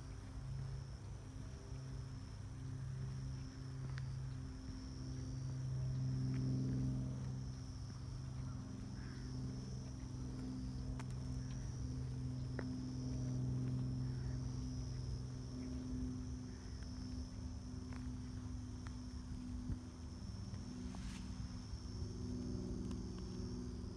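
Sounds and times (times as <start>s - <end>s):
insects chorus: 0.0s - 23.9s.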